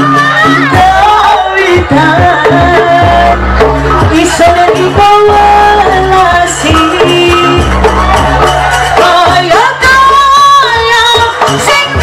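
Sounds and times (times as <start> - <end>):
drums beating: 0.0 - 12.0.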